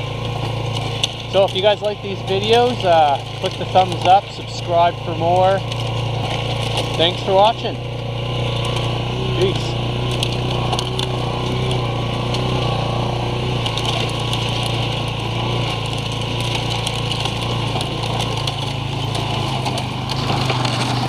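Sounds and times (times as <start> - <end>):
engine droning steadily: 0.0 - 21.0.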